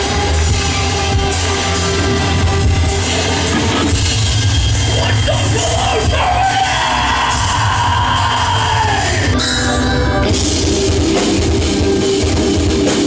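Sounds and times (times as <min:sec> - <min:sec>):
distorted electric guitars: 0:00.0 - 0:13.0
drum kit: 0:00.0 - 0:13.0.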